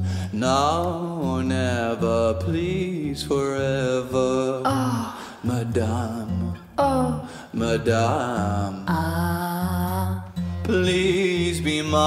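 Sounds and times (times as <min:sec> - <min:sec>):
acoustic guitars playing: 0:00.0 - 0:12.0
person singing wordless notes: 0:00.3 - 0:12.0.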